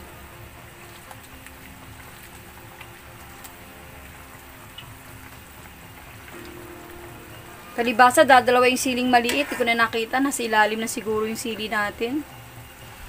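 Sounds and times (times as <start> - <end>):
broth simmering in a wok: 0.0 - 13.0.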